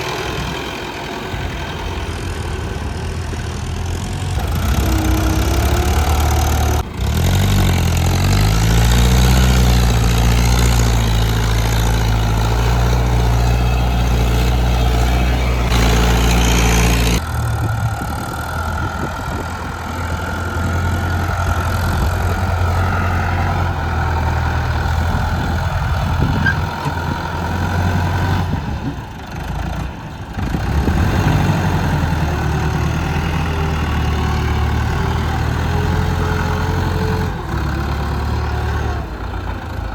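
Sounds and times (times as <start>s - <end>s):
heavy diesel machinery engines: 0.0s - 39.9s.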